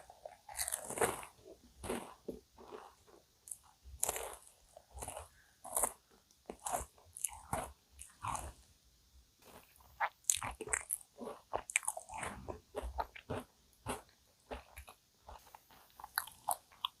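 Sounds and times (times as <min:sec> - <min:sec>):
crunching and chewing pastry: 0:00.0 - 0:08.6, 0:09.4 - 0:17.0.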